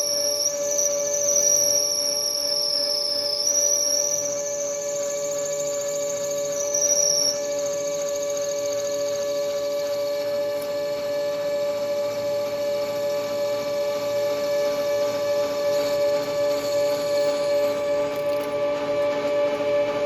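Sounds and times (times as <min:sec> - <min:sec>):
high squeal of cutting tool: 0:00.0 - 0:19.9
metal lathe whining: 0:00.0 - 0:20.0.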